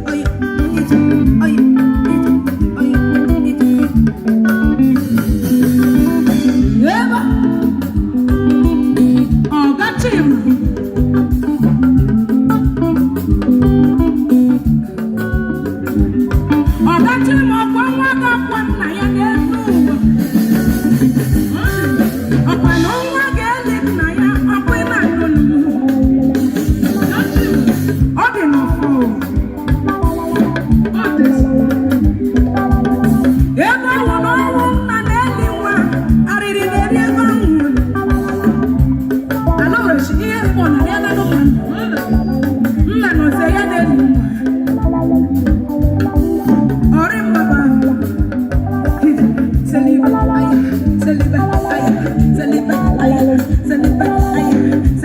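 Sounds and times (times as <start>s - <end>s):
person singing: 0.0s - 14.6s, 15.2s - 55.0s
guitar: 0.0s - 55.0s
organ-like keyboard: 0.0s - 55.0s
steady drum beat: 0.0s - 55.0s.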